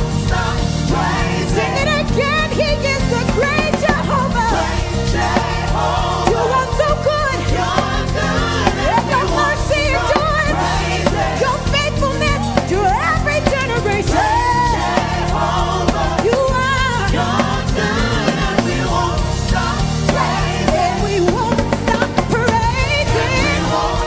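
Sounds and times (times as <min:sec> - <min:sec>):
choir singing gospel: 0:00.0 - 0:24.0
instrumental accompaniment: 0:00.0 - 0:24.0.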